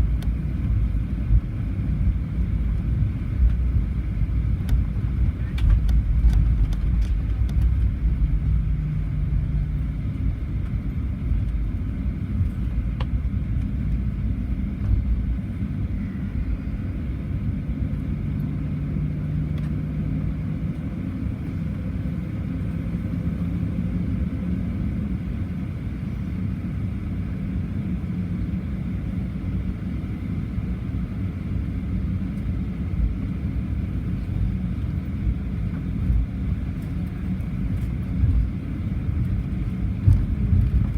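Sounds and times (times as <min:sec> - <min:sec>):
jet engines idling rumble: 0:00.0 - 0:40.9
wheels rolling on taxiway: 0:00.0 - 0:40.9.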